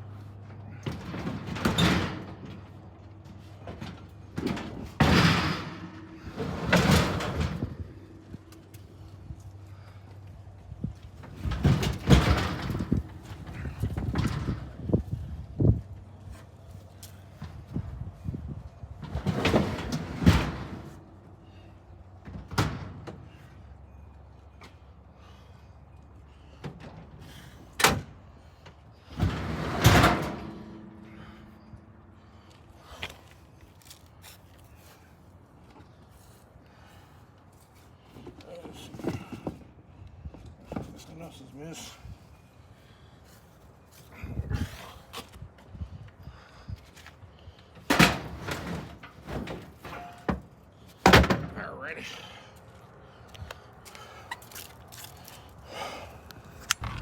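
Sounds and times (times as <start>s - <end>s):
clunks and scrapes: 0.0s - 10.1s, 10.8s - 23.6s, 26.3s - 51.6s, 53.3s - 57.0s.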